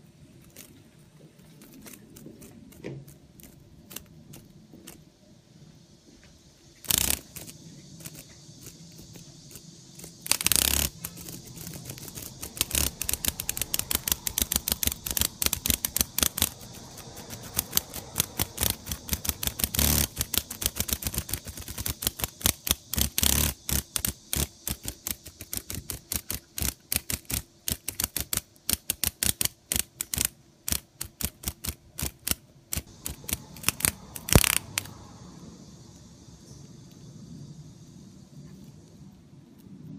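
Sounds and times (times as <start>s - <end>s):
cicada wings buzzing on wood: 0.0s - 37.8s
katydid feeding clicks: 0.2s - 5.2s, 6.6s - 37.6s.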